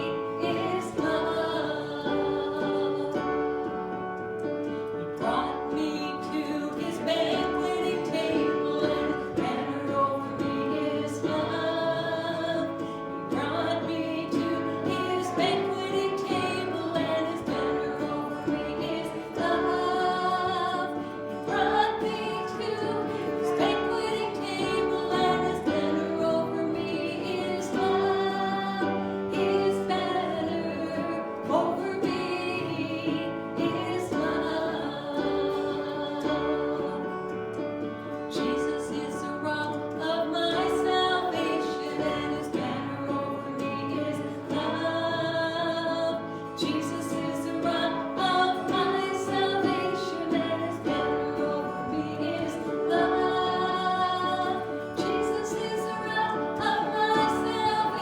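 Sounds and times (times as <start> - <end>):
woman singing: 0.0 - 4.4, 5.0 - 58.0
instrumental accompaniment: 0.0 - 58.0
voices singing: 0.0 - 58.0.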